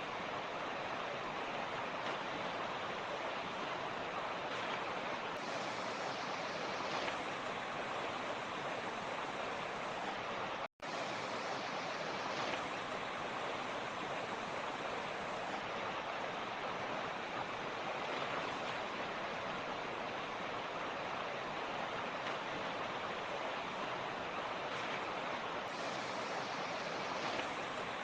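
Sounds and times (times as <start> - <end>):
creek rushing over rocks: 0.0 - 28.0.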